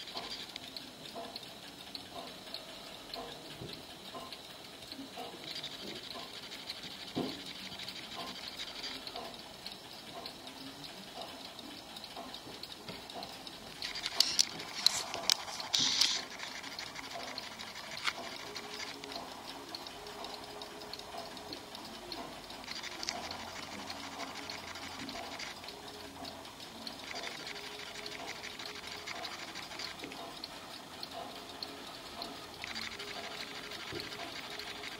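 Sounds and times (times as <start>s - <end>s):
clock handled clicks and knocks: 0.0s - 1.4s, 5.2s - 9.4s, 11.2s - 34.9s
clock ticking: 0.0s - 34.9s.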